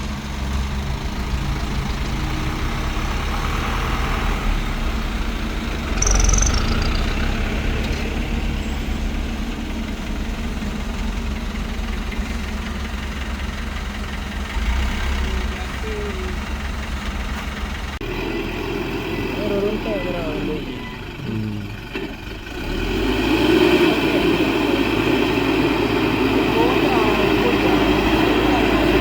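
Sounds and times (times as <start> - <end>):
diesel construction machinery running: 0.0 - 29.0.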